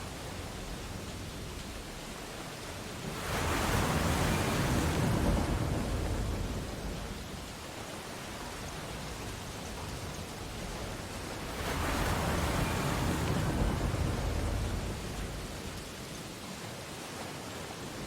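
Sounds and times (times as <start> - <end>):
wave breaking: 0.0 - 16.0
surf washing on beach: 0.0 - 18.0.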